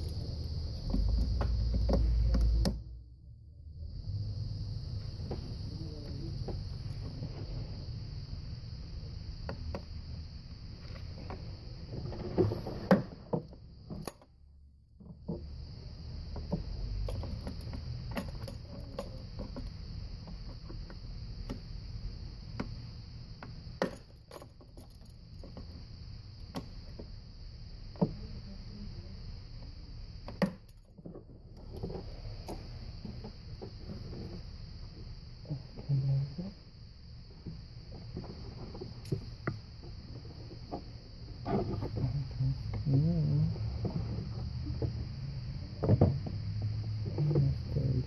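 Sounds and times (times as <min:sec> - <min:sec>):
steady high hiss: 0:03.8 - 0:14.2, 0:15.5 - 0:30.8, 0:31.6 - 0:48.0.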